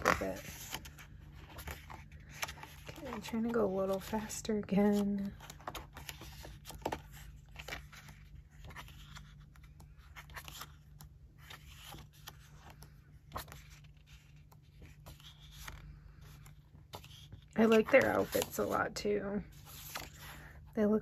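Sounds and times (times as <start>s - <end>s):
pages turning: 0.0s - 20.6s.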